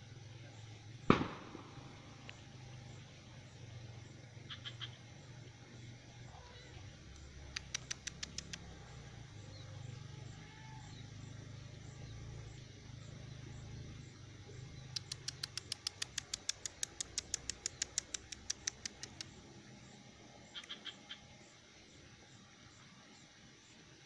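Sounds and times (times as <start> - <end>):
faint low hum: 0.0 - 24.0
bird ticking calls: 1.0 - 10.0, 10.7 - 21.4.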